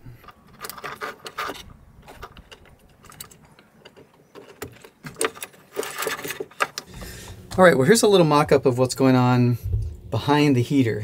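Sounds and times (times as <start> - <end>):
electrical wires clicking and rattling: 0.0 - 11.0.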